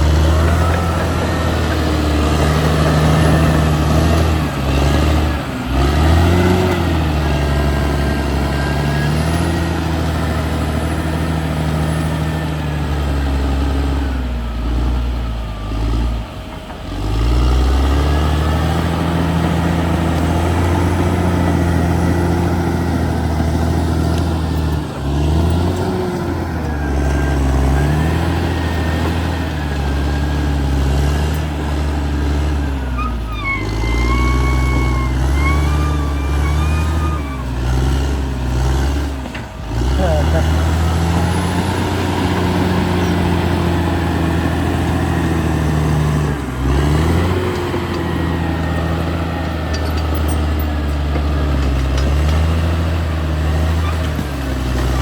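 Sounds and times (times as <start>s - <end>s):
bulldozer engine under load: 0.0s - 55.0s.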